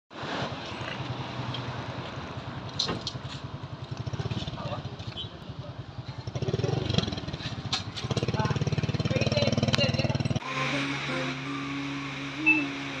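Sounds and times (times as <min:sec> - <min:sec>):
street noise: 0:00.1 - 0:13.0
motorcycle engine rumbling: 0:00.2 - 0:13.0.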